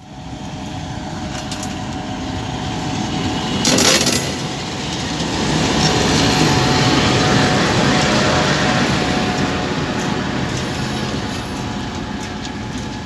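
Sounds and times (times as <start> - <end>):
diesel locomotive engine running: 0.0 - 13.0
train wheels rolling on rails: 0.0 - 13.0.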